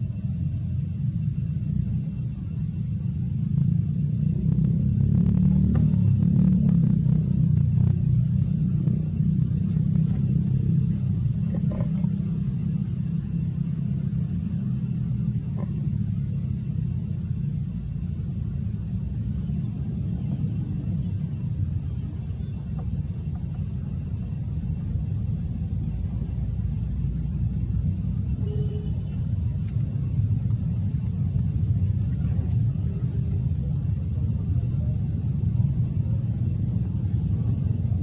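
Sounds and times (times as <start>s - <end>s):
faint high whine: 0.0s - 38.0s
low outdoor rumble: 0.0s - 38.0s.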